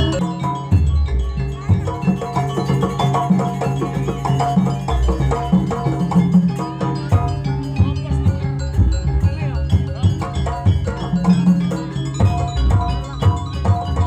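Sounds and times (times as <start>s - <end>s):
gamelan ensemble with drums: 0.0s - 14.0s.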